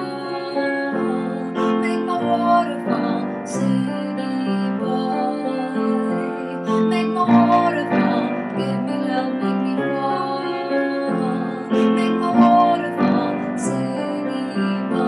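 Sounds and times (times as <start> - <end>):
piano chords: 0.0 - 15.0
woman singing: 0.0 - 15.0.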